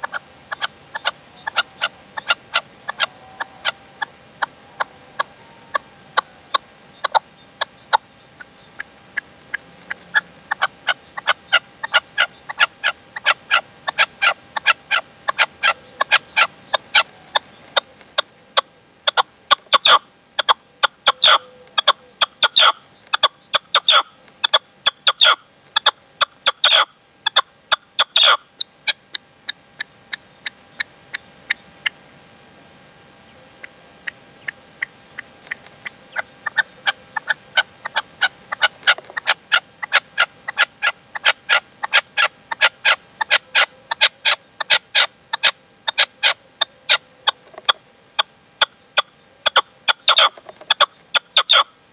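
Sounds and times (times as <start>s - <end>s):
partridge clicking calls: 0.0s - 4.6s, 5.2s - 32.0s, 33.6s - 51.7s.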